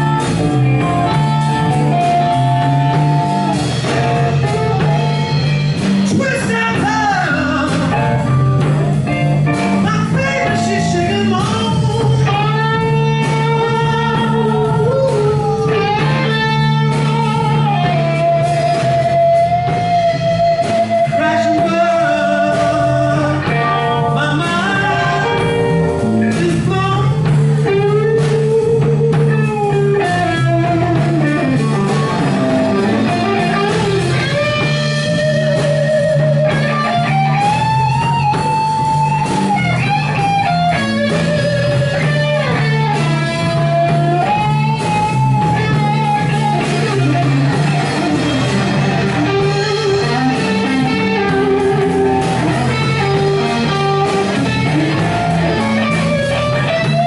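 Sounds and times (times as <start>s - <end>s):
bass guitar: 0.0s - 57.0s
drums: 0.0s - 57.0s
electric guitar lead: 0.0s - 57.0s.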